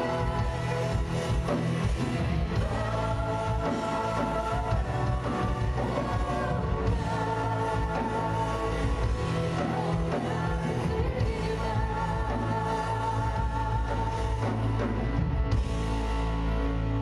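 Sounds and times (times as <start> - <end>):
choir singing: 0.0 - 15.0
live band accompaniment: 0.0 - 17.0.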